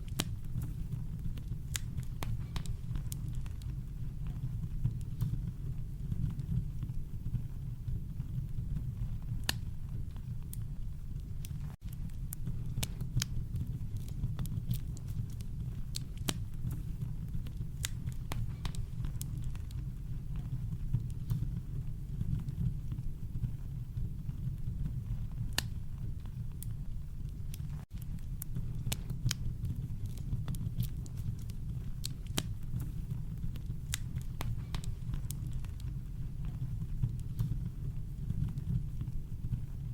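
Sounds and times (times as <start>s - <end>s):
campfire crackling: 0.0s - 23.5s, 24.2s - 39.9s.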